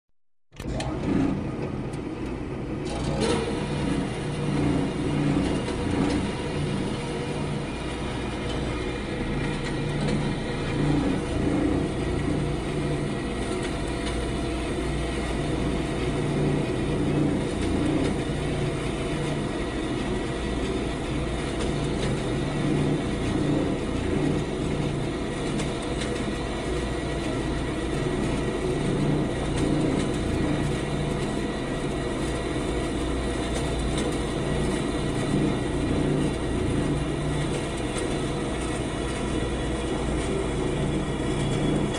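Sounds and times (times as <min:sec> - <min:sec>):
band saw cutting metal: 0:02.8 - 0:41.8.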